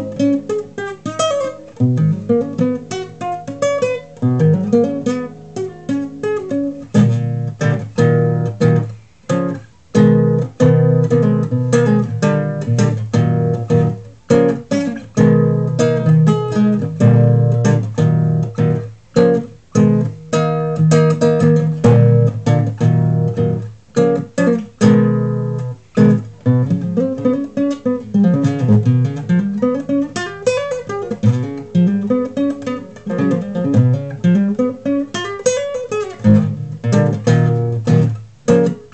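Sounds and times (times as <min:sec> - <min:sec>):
classical guitar fingerstyle: 0:00.0 - 0:38.9.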